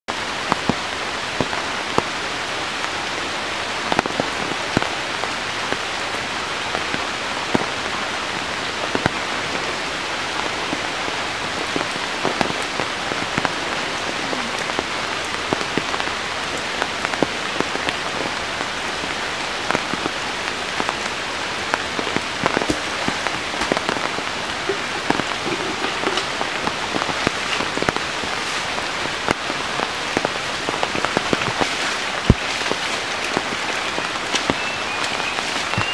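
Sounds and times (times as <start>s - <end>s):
steady rain: 0.0s - 35.9s
raindrops clicking close by: 0.4s - 35.9s.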